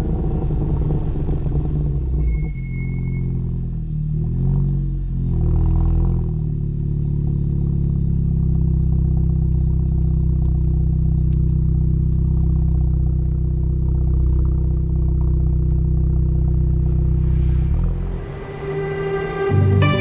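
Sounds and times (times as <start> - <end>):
car engine droning at steady revs: 0.0 - 2.3, 3.1 - 20.0.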